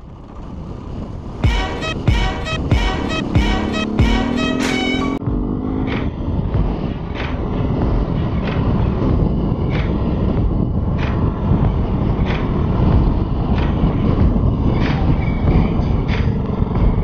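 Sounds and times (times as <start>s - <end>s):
wind rumble: 0.0s - 2.8s, 5.2s - 17.0s.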